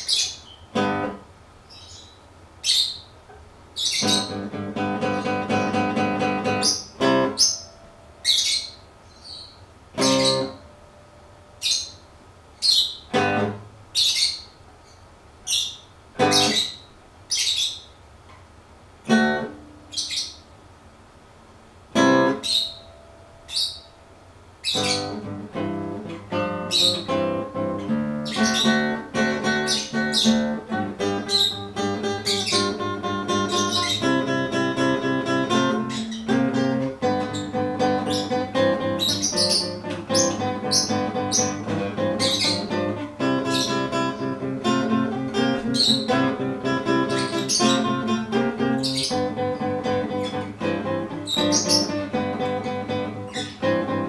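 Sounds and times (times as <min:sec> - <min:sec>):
bird chirps: 0:00.0 - 0:01.1, 0:01.7 - 0:03.2, 0:03.8 - 0:10.7, 0:11.5 - 0:18.0, 0:19.1 - 0:20.5, 0:22.0 - 0:24.0, 0:24.6 - 0:25.4, 0:26.1 - 0:54.0
acoustic guitar music: 0:00.1 - 0:01.3, 0:03.3 - 0:13.9, 0:16.1 - 0:16.8, 0:19.0 - 0:20.3, 0:21.8 - 0:54.0.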